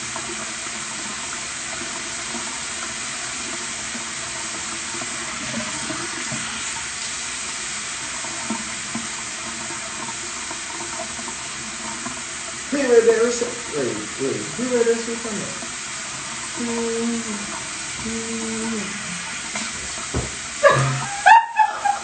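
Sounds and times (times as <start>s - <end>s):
steady hiss: 0.7s - 21.2s.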